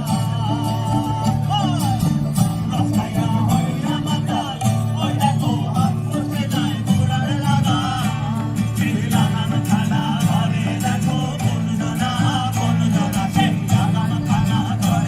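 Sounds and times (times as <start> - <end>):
folk singing: 0.0 - 15.0
plucked strings: 0.0 - 15.0.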